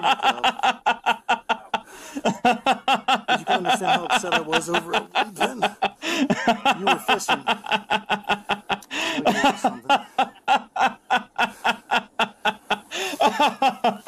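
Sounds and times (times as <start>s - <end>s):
man laughing hard: 0.0s - 14.0s.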